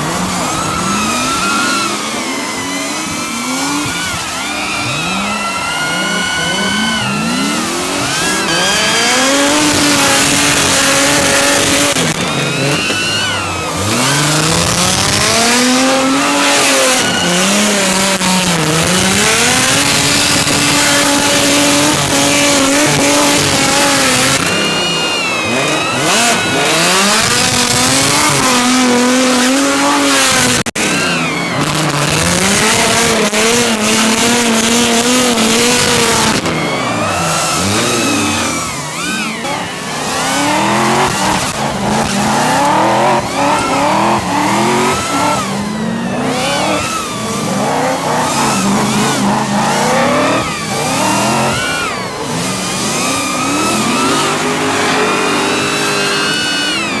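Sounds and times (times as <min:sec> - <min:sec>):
car engines revving: 0:00.0 - 0:57.0
tyres squealing: 0:00.0 - 0:57.0.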